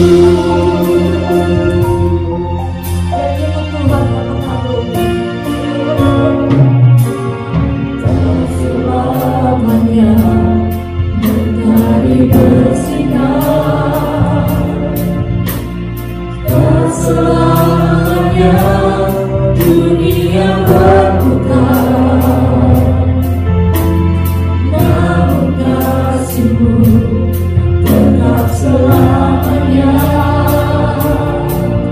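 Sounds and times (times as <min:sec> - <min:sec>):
singers singing together: 0:00.0 - 0:06.8, 0:08.0 - 0:15.7, 0:16.3 - 0:23.6, 0:24.6 - 0:31.9
drum kit beat: 0:00.0 - 0:31.9
keyboard bass and guitar: 0:00.0 - 0:31.9.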